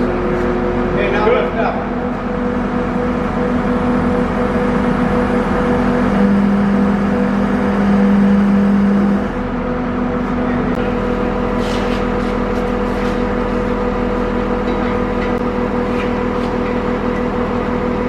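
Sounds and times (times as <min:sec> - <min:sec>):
diesel engine running: 0:00.0 - 0:18.0
low hydraulic hum: 0:00.0 - 0:18.0.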